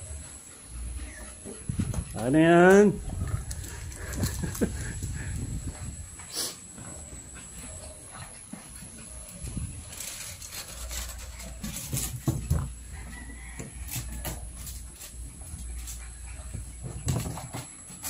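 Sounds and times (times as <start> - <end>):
puppies making small dog sounds: 0.0 - 18.0.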